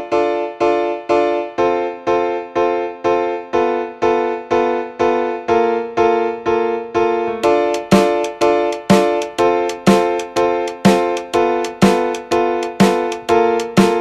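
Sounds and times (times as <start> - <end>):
keyboard chords: 0.0 - 14.0.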